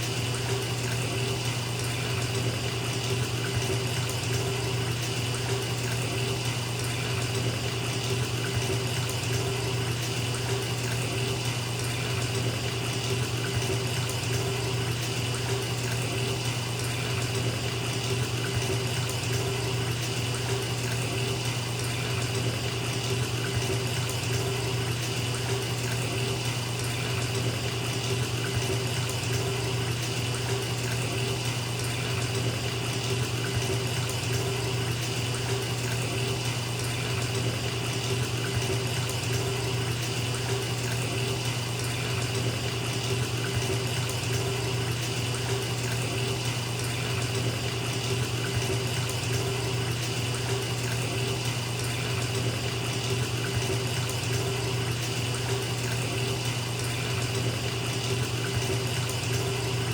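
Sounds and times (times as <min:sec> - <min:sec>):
water running into bathtub: 0:00.0 - 0:59.9.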